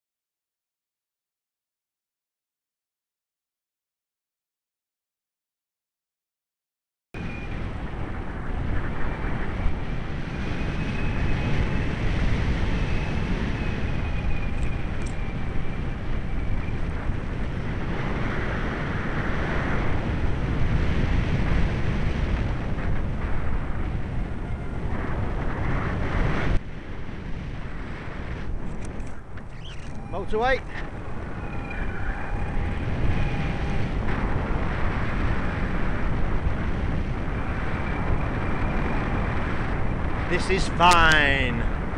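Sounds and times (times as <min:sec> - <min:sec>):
wind buffeting microphone: 0:07.2 - 0:41.9.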